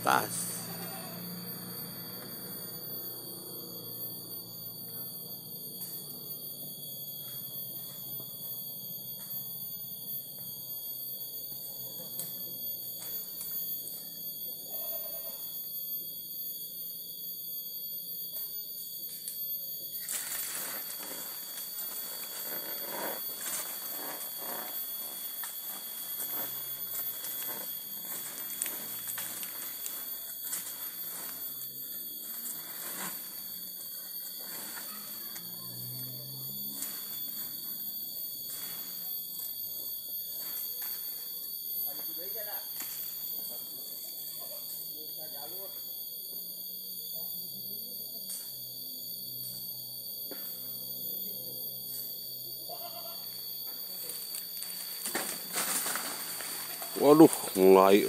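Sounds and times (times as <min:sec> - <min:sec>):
shrill insect drone: 0:00.0 - 0:58.0.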